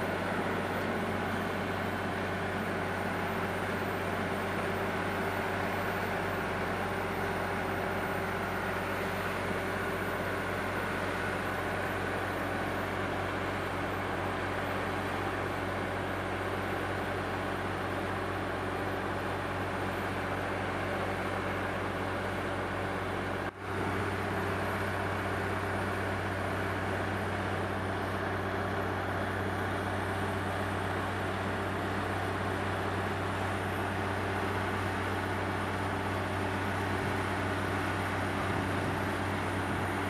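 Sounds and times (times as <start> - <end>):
drilling rig engine drone: 0.0 - 40.0.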